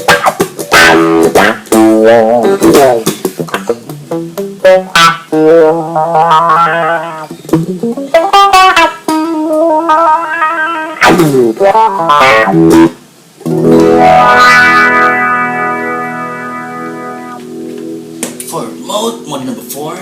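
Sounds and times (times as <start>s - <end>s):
electric guitar with wah pedal: 0.0s - 18.4s.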